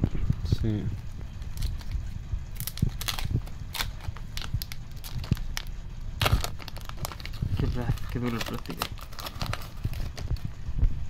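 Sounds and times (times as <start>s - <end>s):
plastic wrapper crinkling: 1.4s - 10.4s.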